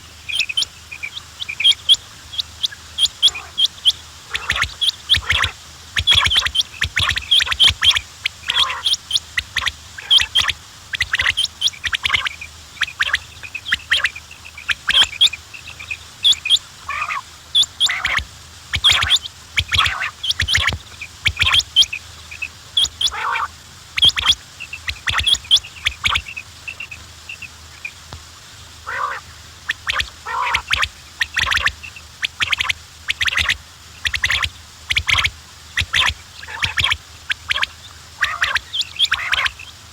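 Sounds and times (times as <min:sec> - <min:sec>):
quails calling: 0:00.0 - 0:39.9.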